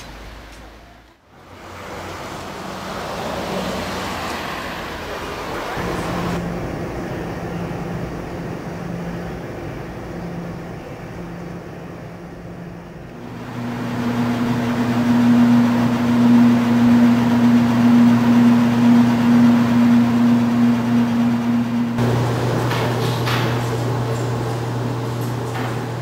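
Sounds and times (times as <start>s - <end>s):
laundry machines humming: 0.0s - 26.0s.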